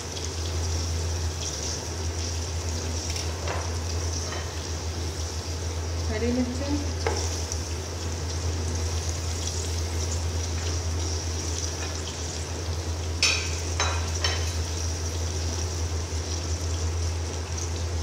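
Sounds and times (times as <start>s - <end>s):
frying hiss in hot oil: 0.0s - 18.0s
low steady hum: 0.0s - 18.0s.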